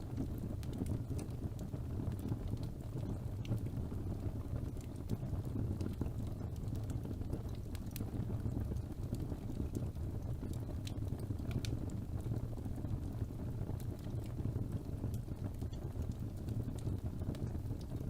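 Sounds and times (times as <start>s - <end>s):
fire crackles and pops: 0.0s - 18.0s
rumble of fire flames: 0.0s - 18.0s.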